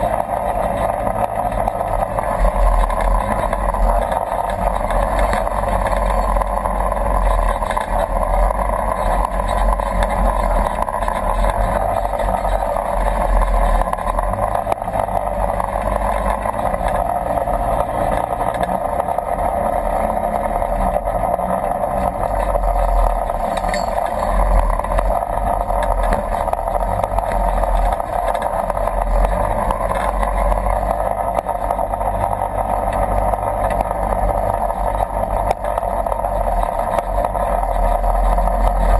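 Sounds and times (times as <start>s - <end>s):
vehicle engine droning: 0.0s - 38.9s.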